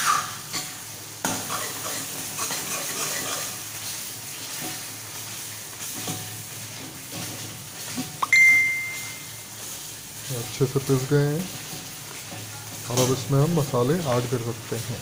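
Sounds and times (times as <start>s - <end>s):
gravy sizzling in hot oil: 0.0s - 15.0s.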